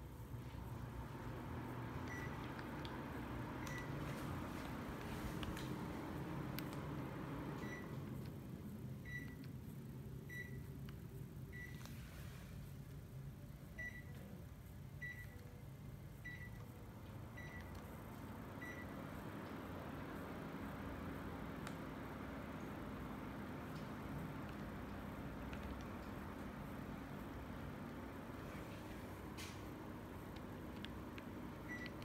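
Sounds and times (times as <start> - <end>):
air conditioner beeping: 0.0 - 32.0
air conditioner hum and airflow: 0.0 - 32.0.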